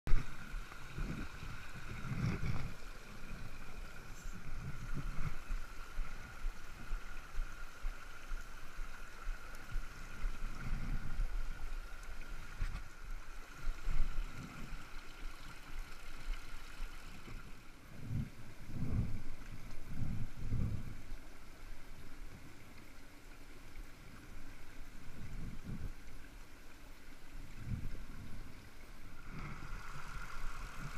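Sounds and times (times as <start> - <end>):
stream rushing over boulders: 0.1 - 30.9.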